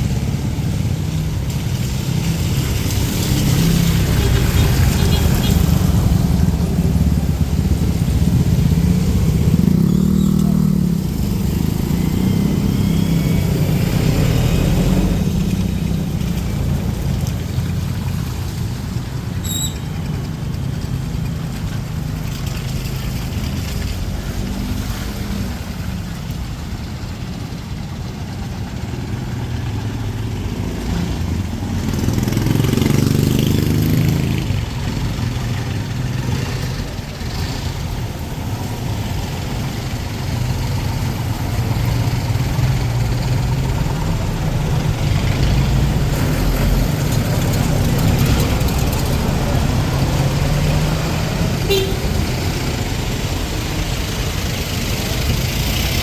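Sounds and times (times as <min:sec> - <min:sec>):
loud vehicle passing: 0:00.0 - 0:19.2, 0:28.3 - 0:56.0
vehicle engines passing: 0:00.0 - 0:56.0.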